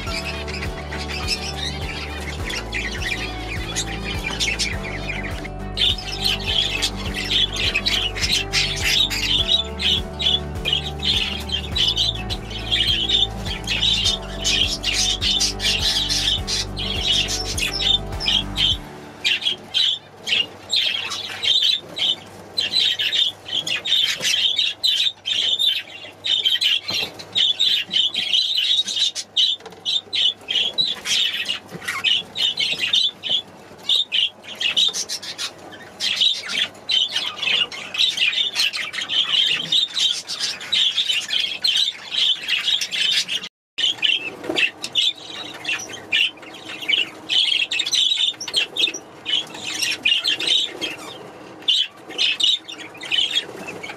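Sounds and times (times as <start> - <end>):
budgerigars chattering and squawking: 0.0 - 53.9.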